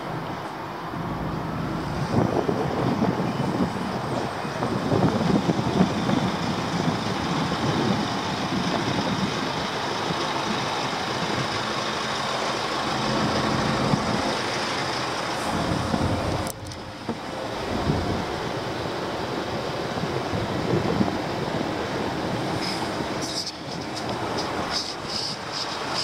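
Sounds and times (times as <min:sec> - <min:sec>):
wind noise on microphone: 0:00.0 - 0:11.7, 0:13.0 - 0:26.0.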